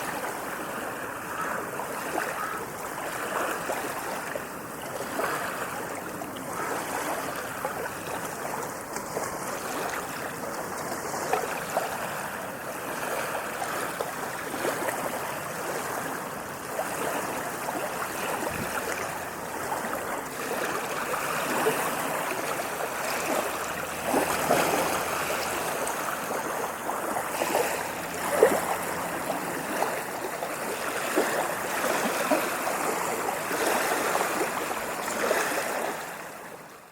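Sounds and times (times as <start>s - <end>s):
small waves lapping on beach: 0.0s - 36.9s.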